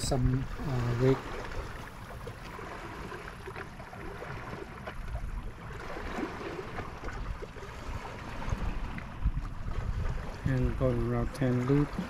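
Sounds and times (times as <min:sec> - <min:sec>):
water lapping: 0:00.0 - 0:12.0
wind rumbling on microphone: 0:00.0 - 0:12.0.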